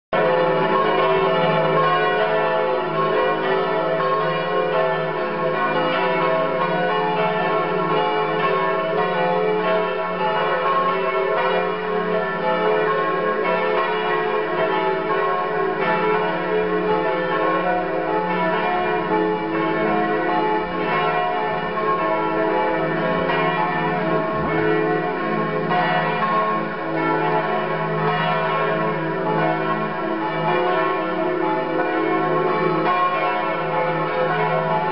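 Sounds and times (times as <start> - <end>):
church bells pealing: 0.2 - 34.9.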